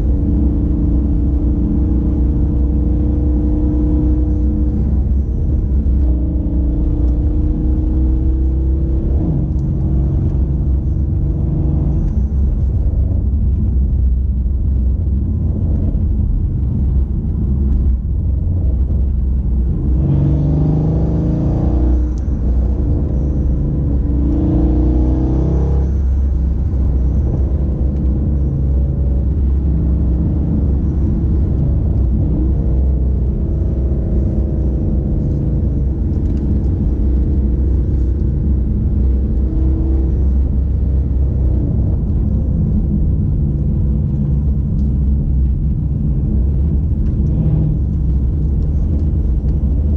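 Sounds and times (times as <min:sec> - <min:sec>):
car engine deep rumble: 0:00.0 - 0:49.9.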